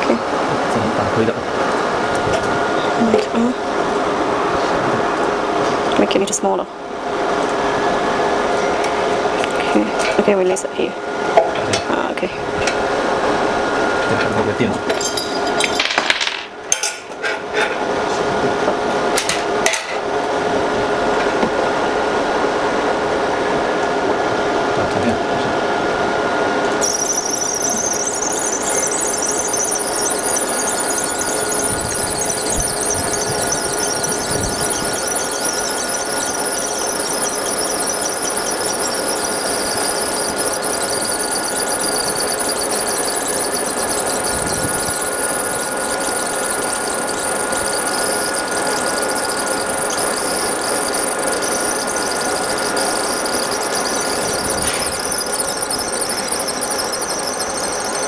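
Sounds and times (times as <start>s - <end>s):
laser engraver high-pitched whine: 0.0s - 16.4s, 17.9s - 58.0s.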